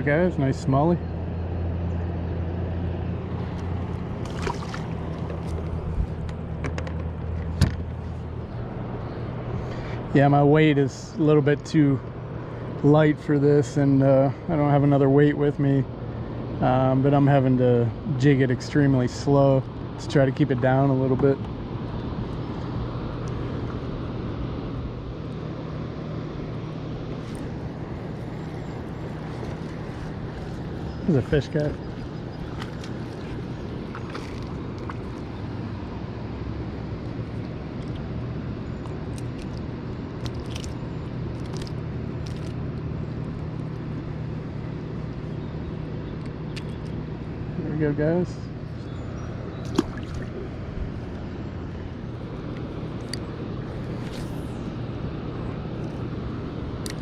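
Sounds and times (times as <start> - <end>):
distant engine drone: 0.0 - 57.0
low mechanical hum: 0.0 - 57.0.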